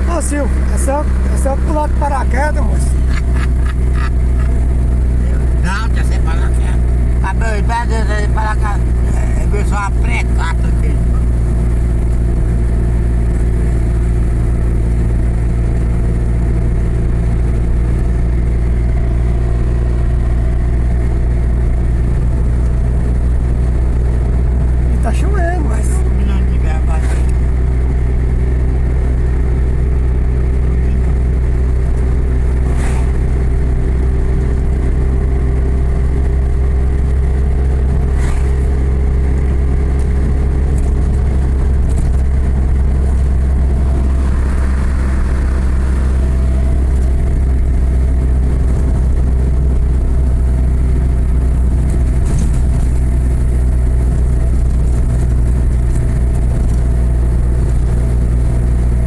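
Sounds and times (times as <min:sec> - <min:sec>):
vehicle engine and road drone: 0:00.0 - 0:59.0.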